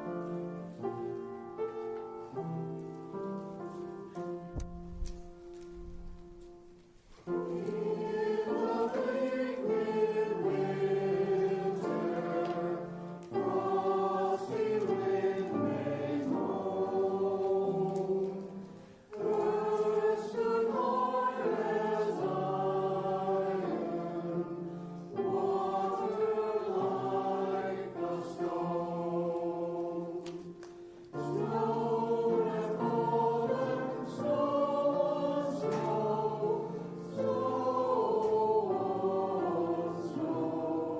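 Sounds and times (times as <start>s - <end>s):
choir singing a hymn: 0.0s - 5.0s, 7.1s - 40.9s
choir breaths: 6.9s - 40.9s.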